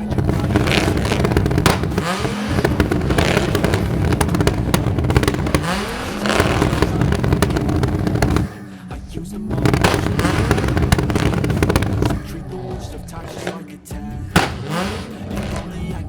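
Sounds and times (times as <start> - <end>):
car engine revving: 0.0 - 8.6, 9.5 - 16.0
exhaust crackling and popping: 0.0 - 8.6, 9.5 - 13.7, 14.3 - 16.0.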